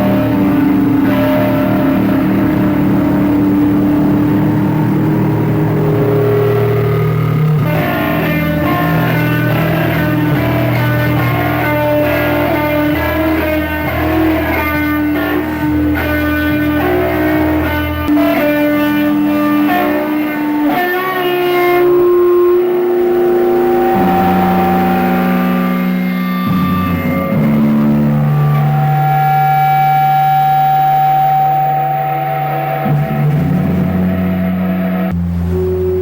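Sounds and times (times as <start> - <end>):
held low bass tones: 0.0 - 36.0
plucked guitar notes: 0.0 - 36.0.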